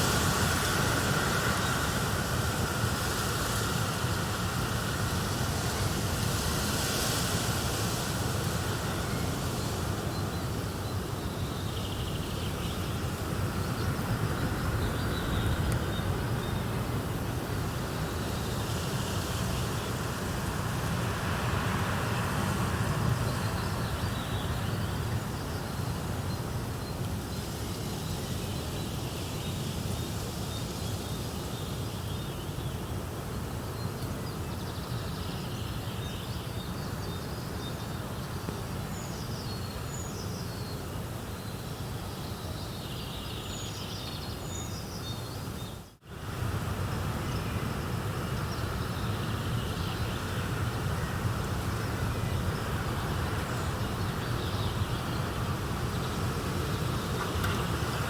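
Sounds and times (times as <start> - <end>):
outdoor nature ambience: 0.0 - 58.0.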